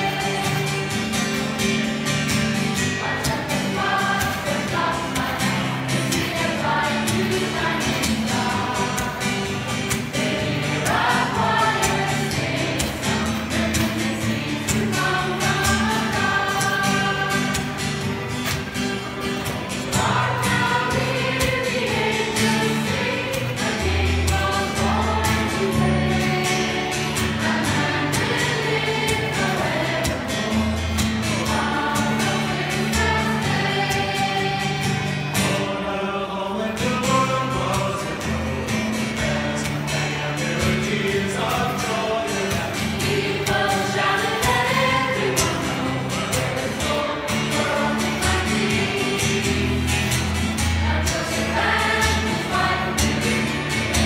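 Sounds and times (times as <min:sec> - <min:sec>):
acoustic guitar: 0:00.0 - 0:54.0
mixed choir singing: 0:00.0 - 0:54.0.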